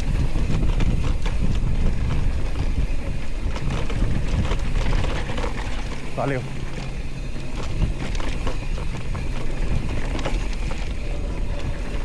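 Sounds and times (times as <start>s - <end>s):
bike tyres rattling on dirt trail: 0.0s - 12.0s
wind buffeting microphone: 0.0s - 12.0s.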